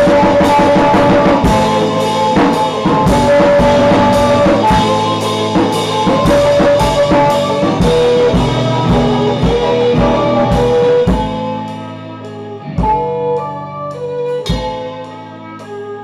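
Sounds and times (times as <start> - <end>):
drum kit beat: 0.0 - 16.0
electric guitar chords: 0.0 - 16.0.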